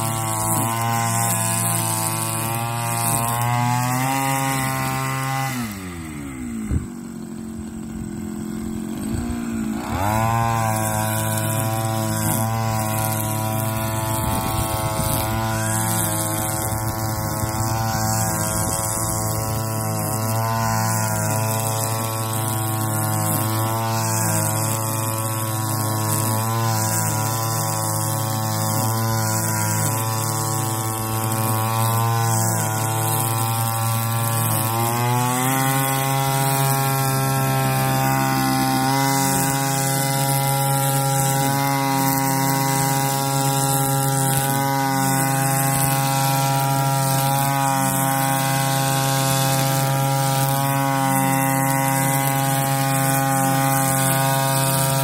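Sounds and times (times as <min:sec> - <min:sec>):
brush cutter engine revving: 0:00.0 - 0:55.0.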